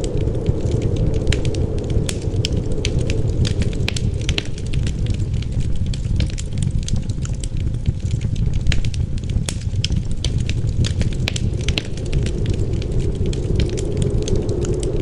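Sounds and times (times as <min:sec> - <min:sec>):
low rumble of wind: 0:00.0 - 0:15.0
wood fire crackling and popping: 0:00.0 - 0:15.0.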